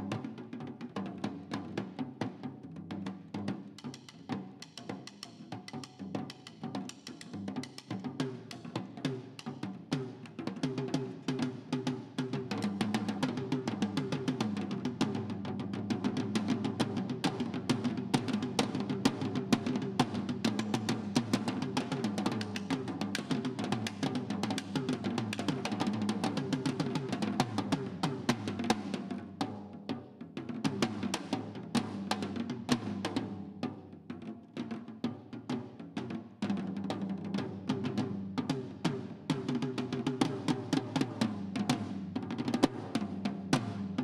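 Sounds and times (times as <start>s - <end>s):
snare drums played with sticks: 0.0s - 44.0s.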